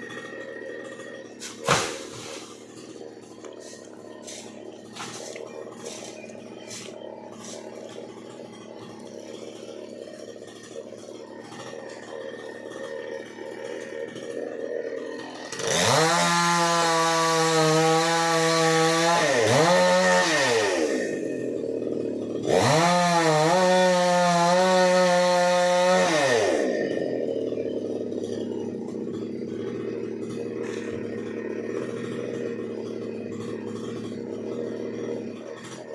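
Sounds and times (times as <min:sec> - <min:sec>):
chainsaw revving: 0:00.0 - 0:35.9.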